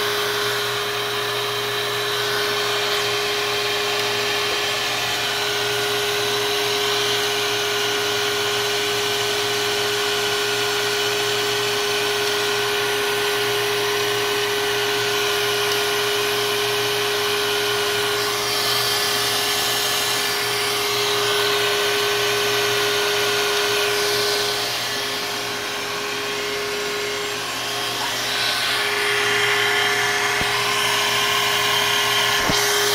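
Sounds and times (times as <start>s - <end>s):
milling machine spindle whine: 0.0s - 32.9s.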